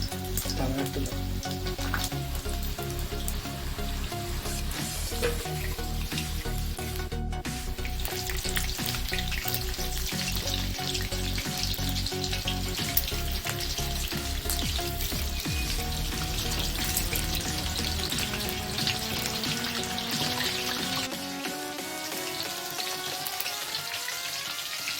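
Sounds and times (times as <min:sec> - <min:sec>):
chicken deep-frying in oil: 0:00.0 - 0:24.9.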